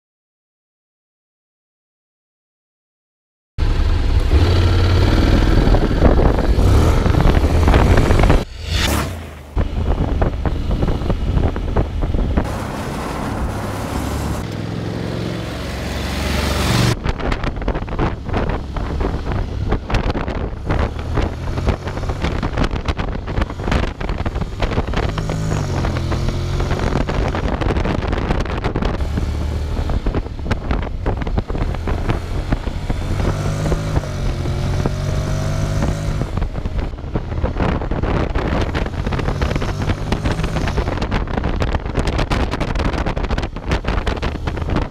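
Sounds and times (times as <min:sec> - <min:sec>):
wind buffeting microphone: 0:03.6 - 0:14.5, 0:16.4 - 0:44.9
motorcycle engine accelerating: 0:03.6 - 0:44.9.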